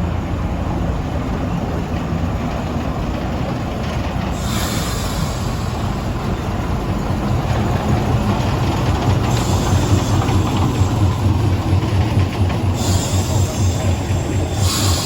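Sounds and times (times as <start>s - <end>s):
diesel locomotive engine throbbing: 0.0s - 15.0s.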